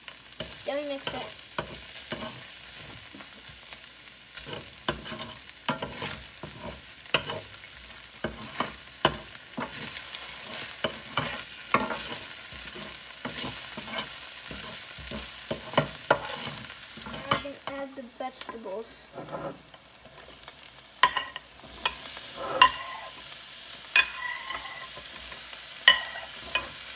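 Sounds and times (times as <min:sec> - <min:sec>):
garlic sizzling in hot oil: 0:00.0 - 0:26.9
metal spoon scraping a pan: 0:00.1 - 0:03.4, 0:04.4 - 0:23.3, 0:23.9 - 0:26.9.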